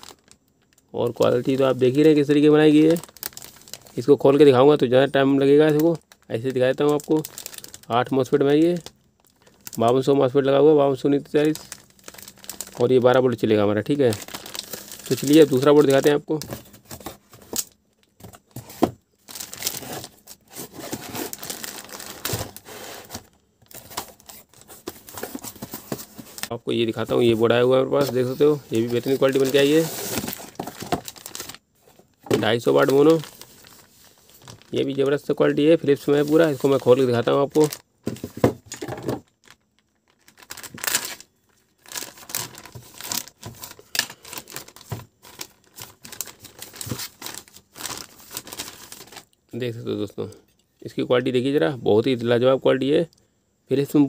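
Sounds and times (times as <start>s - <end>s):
plastic bag crinkling: 0.0s - 4.2s, 5.4s - 10.1s, 11.3s - 18.2s, 19.2s - 49.4s.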